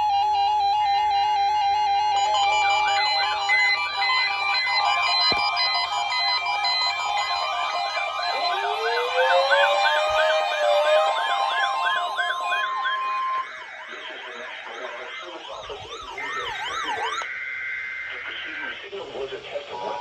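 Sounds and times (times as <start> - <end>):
steady siren tone: 0.0 - 18.7
electronic siren wails: 0.0 - 19.0.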